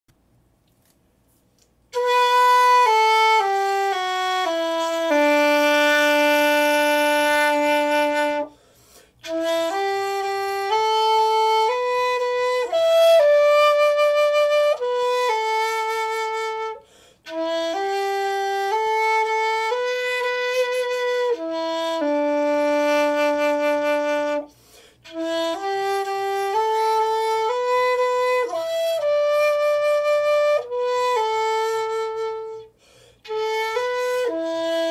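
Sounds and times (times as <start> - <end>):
bamboo flute slow melody: 1.9 - 8.6, 9.2 - 34.9.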